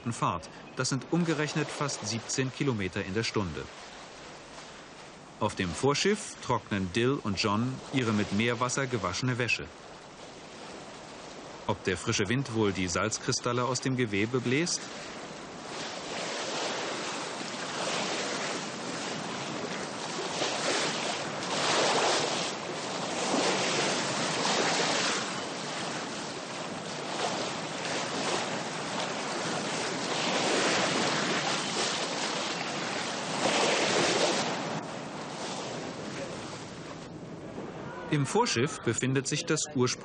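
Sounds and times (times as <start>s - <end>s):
sea rushing along ship hull: 0.0s - 40.0s.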